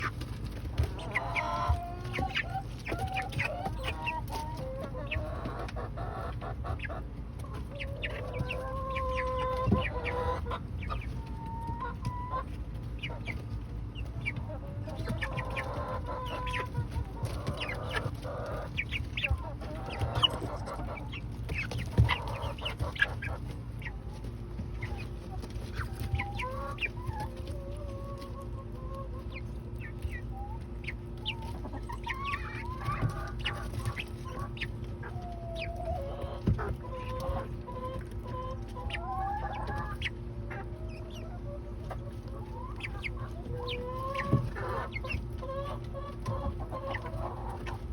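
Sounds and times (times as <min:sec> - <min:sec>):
young chickens clucking and peeping: 0:00.0 - 0:47.9.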